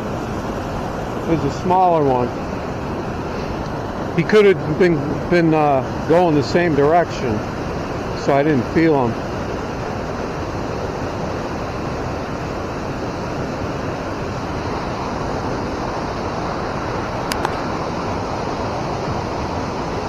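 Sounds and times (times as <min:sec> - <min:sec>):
water rushing over a spillway: 0:00.0 - 0:20.0.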